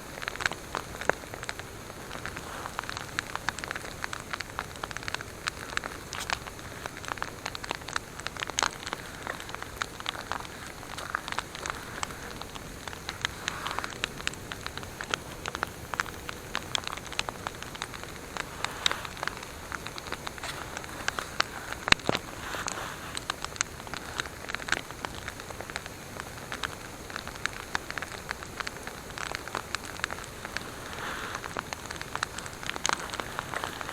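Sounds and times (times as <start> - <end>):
campfire crackling: 0.0 - 33.9.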